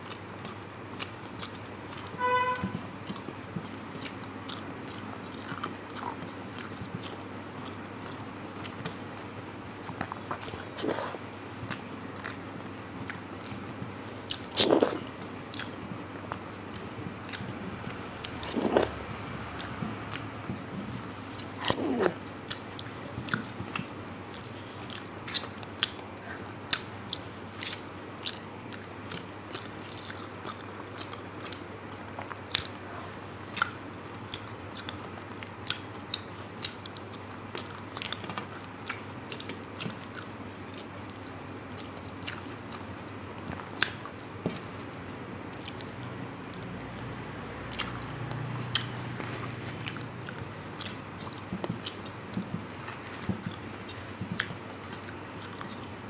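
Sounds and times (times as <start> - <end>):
person chewing with wet clicks: 0.0 - 56.0.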